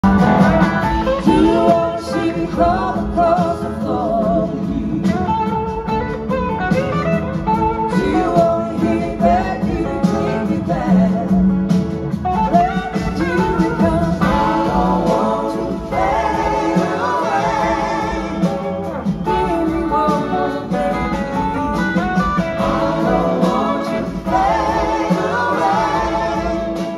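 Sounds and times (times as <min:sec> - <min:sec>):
live rock band playing: 0:00.0 - 0:26.9.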